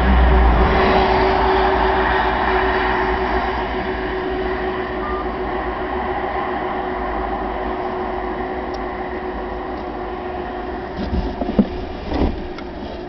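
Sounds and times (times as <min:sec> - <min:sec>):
car engine and tyre drone: 0:00.0 - 0:13.0.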